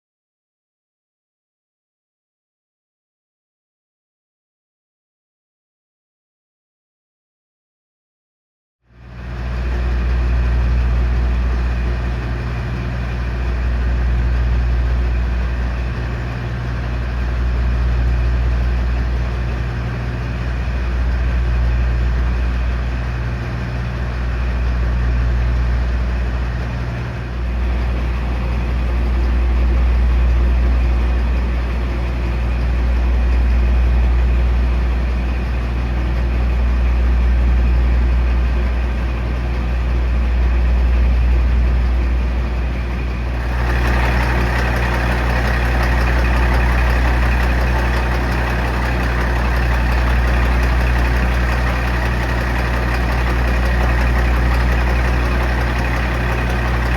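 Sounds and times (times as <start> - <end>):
diesel engine humming: 9.0 - 56.9.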